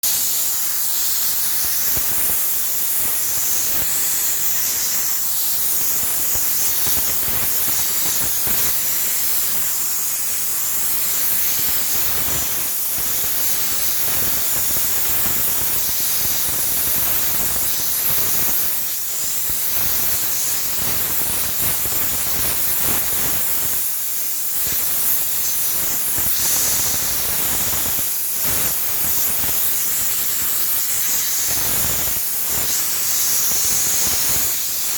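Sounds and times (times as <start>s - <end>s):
steam cleaner hissing: 0.0s - 34.9s.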